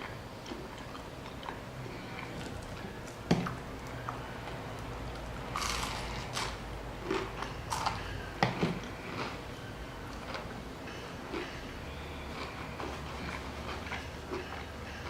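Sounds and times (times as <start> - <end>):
moist chewing of food: 0.0 - 15.0.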